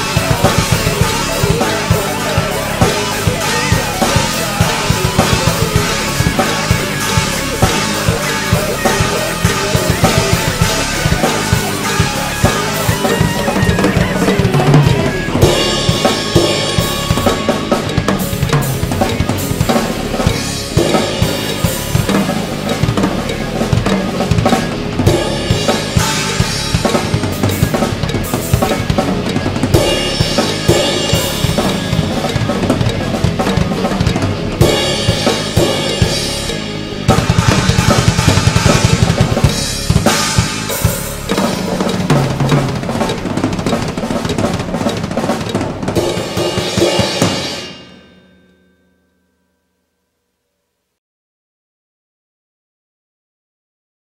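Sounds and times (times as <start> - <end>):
drum kit beat with fills: 0.0 - 48.3.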